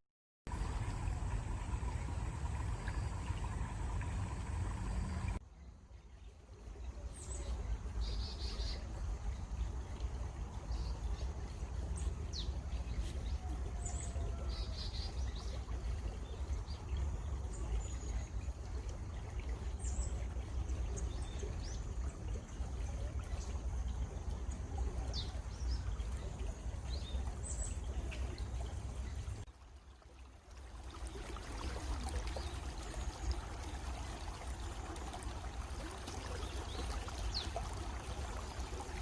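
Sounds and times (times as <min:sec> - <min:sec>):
songbirds chirping: 0:00.5 - 0:39.0
stream water flowing: 0:00.5 - 0:39.0.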